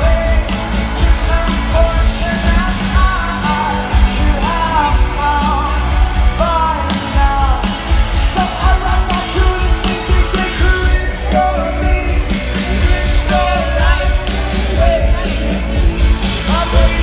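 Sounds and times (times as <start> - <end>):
person singing: 0.0 - 17.0
rock band playing live: 0.0 - 17.0.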